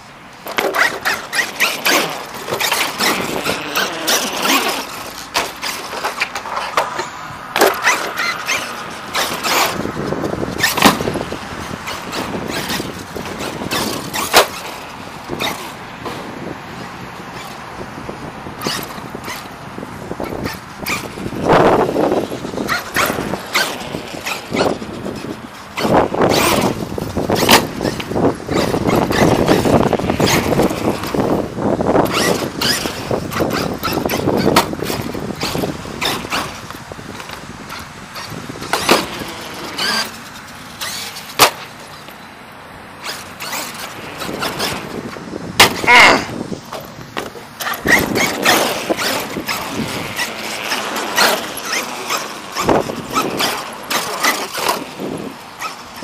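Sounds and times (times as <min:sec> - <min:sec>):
electric rc truck motor and tyres: 0:00.0 - 0:56.0.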